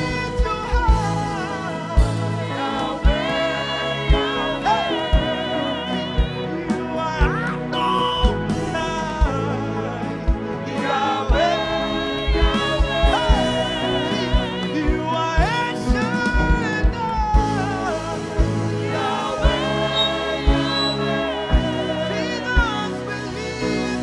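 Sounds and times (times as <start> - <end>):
choir singing gospel: 0.0 - 24.0
lead singers holding long notes: 0.0 - 24.0
live band playing: 0.0 - 24.0
steady drum beat: 0.0 - 24.0.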